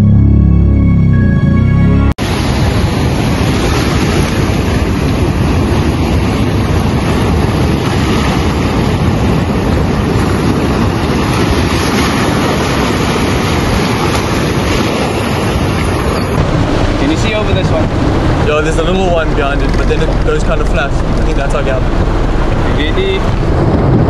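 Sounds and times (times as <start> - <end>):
waves breaking on shore: 2.2 - 24.0
wind buffeting microphone: 2.2 - 24.0.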